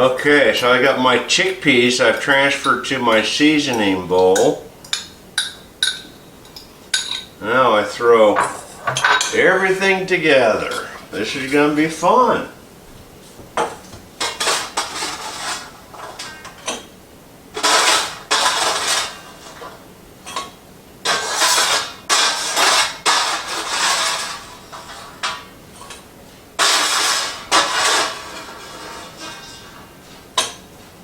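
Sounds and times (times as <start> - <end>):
utensil scraping cookware: 0.0 - 12.4, 13.6 - 16.9, 17.6 - 31.0.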